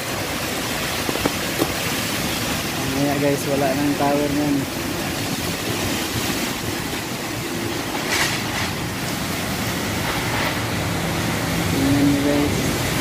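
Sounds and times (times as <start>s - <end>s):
wind and heavy rain lashing trees: 0.0s - 13.0s.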